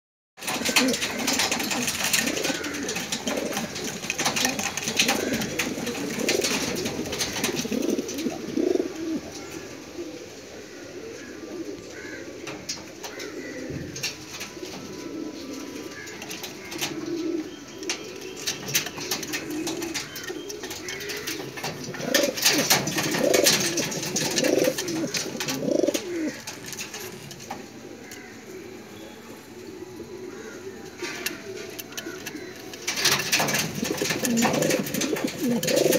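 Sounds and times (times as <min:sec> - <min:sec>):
pigeons cooing: 0:00.4 - 0:35.9.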